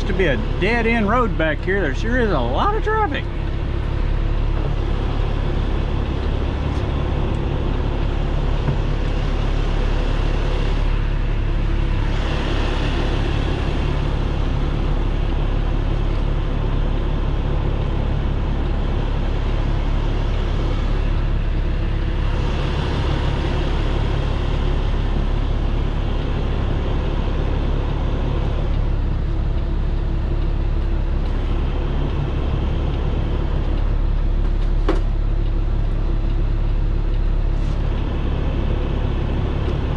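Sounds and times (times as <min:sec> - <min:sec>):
truck diesel engine hum: 0:00.0 - 0:39.9.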